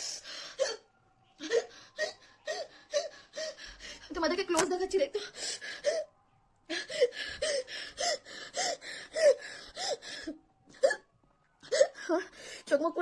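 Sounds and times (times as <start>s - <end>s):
woman panting with gasps: 0.0s - 4.3s, 5.1s - 6.1s, 6.7s - 12.8s.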